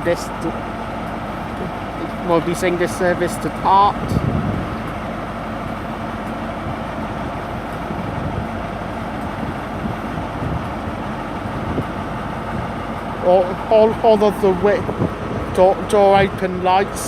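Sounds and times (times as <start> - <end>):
diesel train idling: 0.0 - 17.0
station ambience: 0.0 - 17.0.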